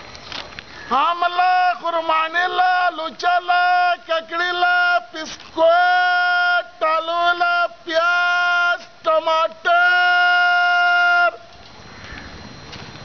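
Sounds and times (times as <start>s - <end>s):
man singing in a high voice: 0.9s - 11.4s.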